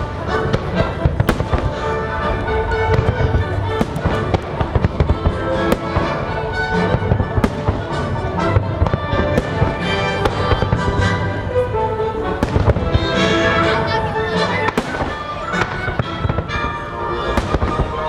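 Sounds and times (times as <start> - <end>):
fireworks bangs and crackles: 0.0 - 18.0
orchestral music: 0.0 - 18.0.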